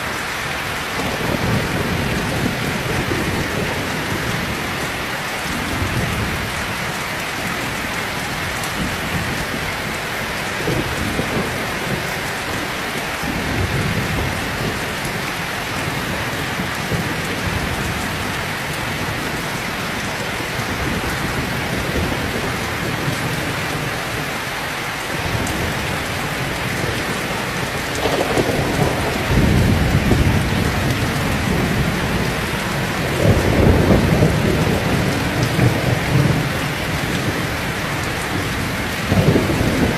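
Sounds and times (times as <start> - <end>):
heavy rain pouring: 0.0 - 39.9
thunder rumbling: 0.8 - 24.4, 25.1 - 39.9.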